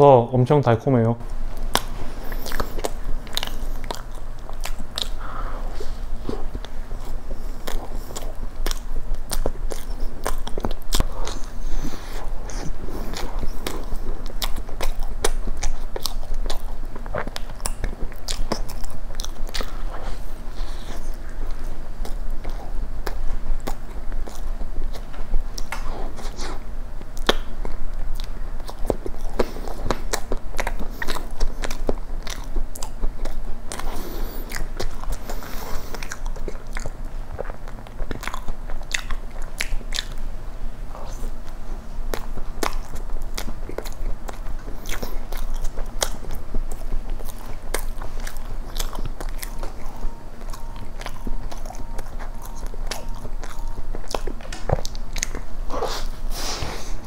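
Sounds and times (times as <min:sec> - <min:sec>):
person chewing soft cake: 0:01.3 - 0:57.0.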